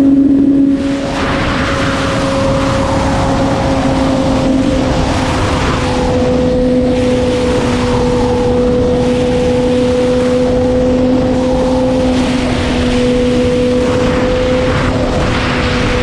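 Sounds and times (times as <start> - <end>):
motorcycle engine high pitch: 0.0 - 16.0
wind rush on microphone: 0.0 - 16.0.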